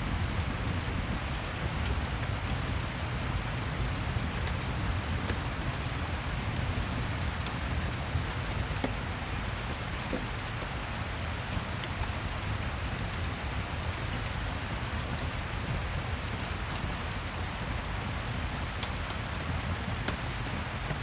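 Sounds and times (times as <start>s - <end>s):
fireplace crackles: 0.0s - 21.0s
steady rain: 0.0s - 21.0s.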